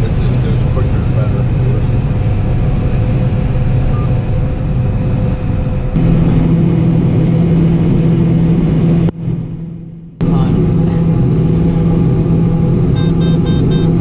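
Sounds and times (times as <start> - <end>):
combine harvester drone: 0.0 - 14.0.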